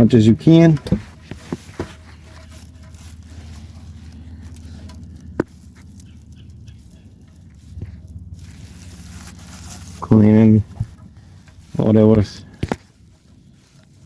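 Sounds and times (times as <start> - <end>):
low steady background hum: 0.0 - 14.0.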